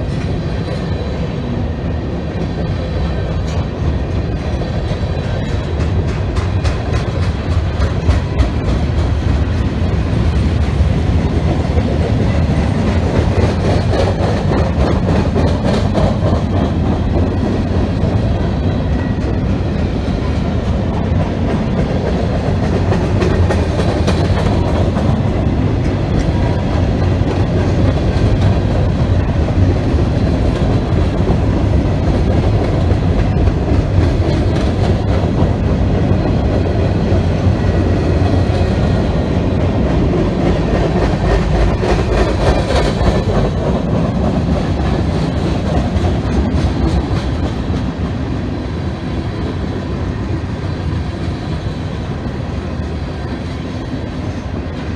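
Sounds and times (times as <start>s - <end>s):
train wheels rumbling on rail: 0.0s - 54.9s
wheels clacking over rail joints: 2.3s - 48.6s.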